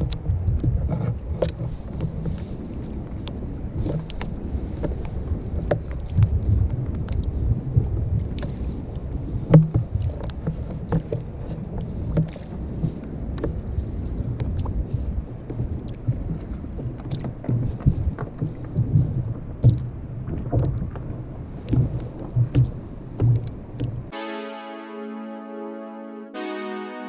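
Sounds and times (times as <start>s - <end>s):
wind rumbling on microphone: 0.0s - 24.1s
water against kayak hull: 0.1s - 24.1s.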